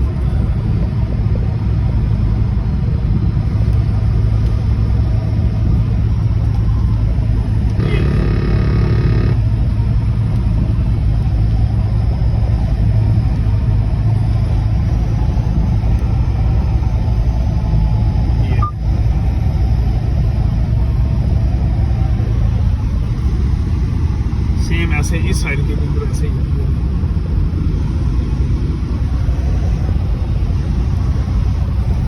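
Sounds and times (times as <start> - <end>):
car driving on road: 0.0 - 32.0.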